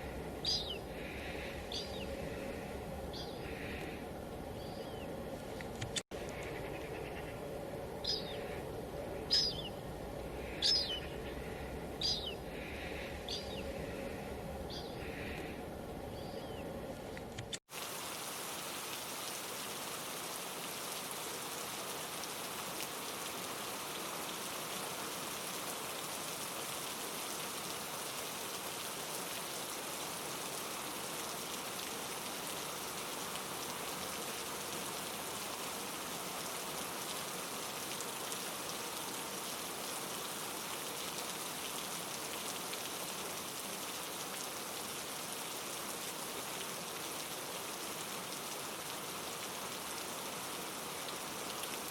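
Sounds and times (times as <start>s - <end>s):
white noise hiss: 0.0s - 51.9s.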